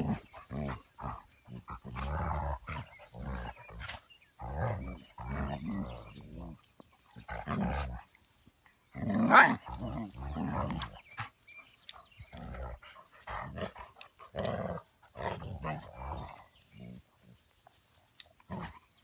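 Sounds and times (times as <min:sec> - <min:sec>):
dogs growling: 0:00.0 - 0:08.2, 0:08.9 - 0:17.4, 0:18.3 - 0:19.0.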